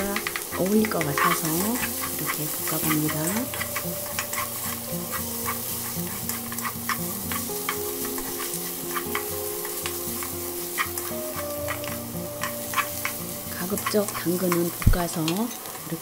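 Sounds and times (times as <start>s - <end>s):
wooden spatulas scraping a pan: 0.0s - 14.9s
vegetables sizzling in oil: 0.0s - 16.0s.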